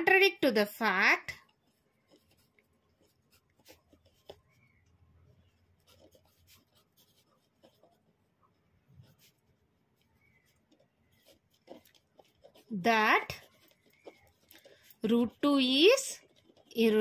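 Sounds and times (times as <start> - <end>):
pen scratching on paper: 0.0 - 17.0.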